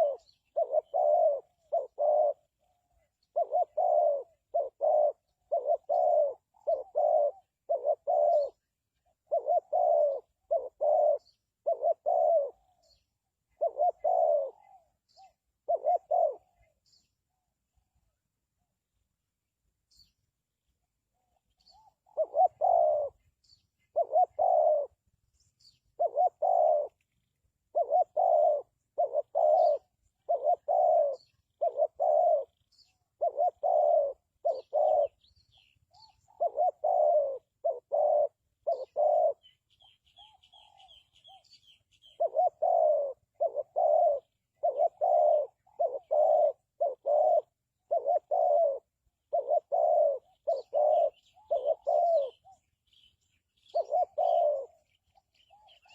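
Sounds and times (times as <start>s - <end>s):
small bird chirping: 0.0s - 17.4s, 19.8s - 55.9s
dove cooing: 0.0s - 18.7s, 20.8s - 55.9s.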